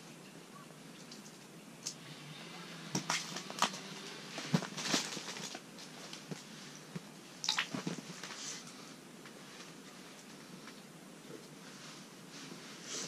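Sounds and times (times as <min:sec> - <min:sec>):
rustles: 0:00.0 - 0:13.0.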